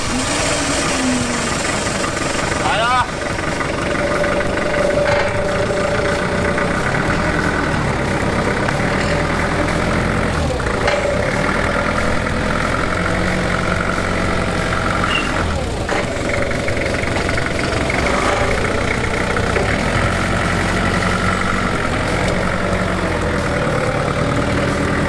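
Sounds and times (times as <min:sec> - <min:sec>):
forklift engine running: 0:00.0 - 0:25.0.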